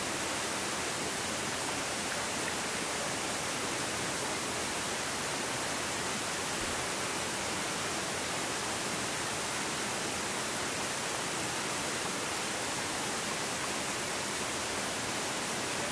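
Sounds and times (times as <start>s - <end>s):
stream rushing over rocks: 0.0s - 15.9s.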